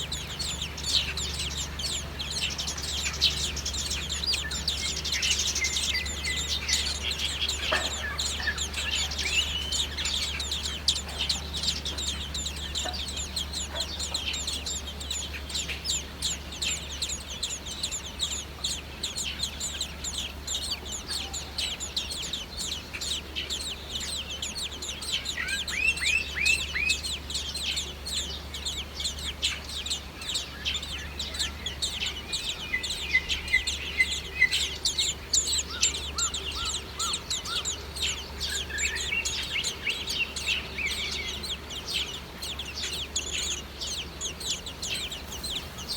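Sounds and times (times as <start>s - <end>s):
lower curving bird calls: 0.0s - 45.9s
young birds chirping: 0.0s - 45.9s.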